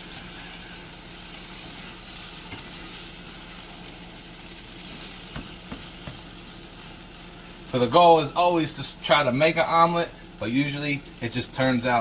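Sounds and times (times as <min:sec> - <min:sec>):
omelette sizzling in butter: 0:00.0 - 0:12.0.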